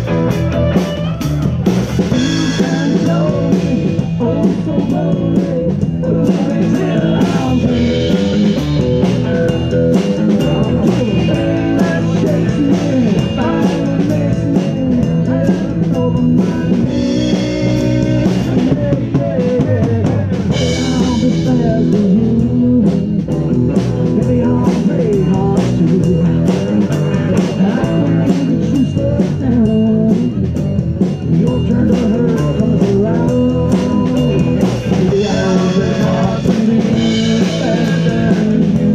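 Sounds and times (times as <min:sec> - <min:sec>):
drum kit steady beat: 0:00.0 - 0:38.9
electric bass: 0:00.0 - 0:38.9
electric guitar bending notes: 0:00.0 - 0:38.9.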